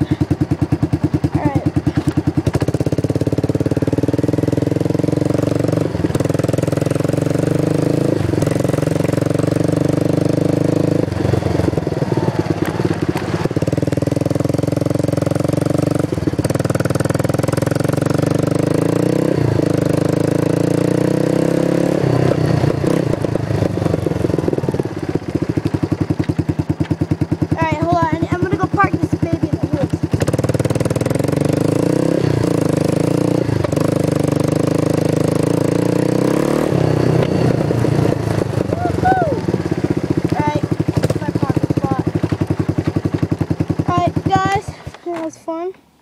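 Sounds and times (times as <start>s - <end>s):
four-wheeler engine running: 0.0s - 46.0s.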